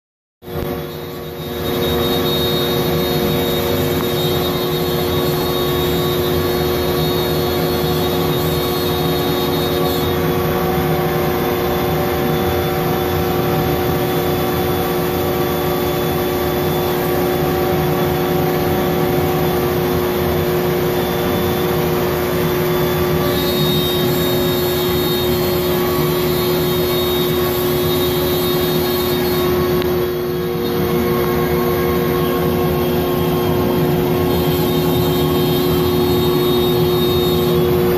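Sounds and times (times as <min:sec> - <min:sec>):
electric motor humming: 0:00.5 - 0:37.9.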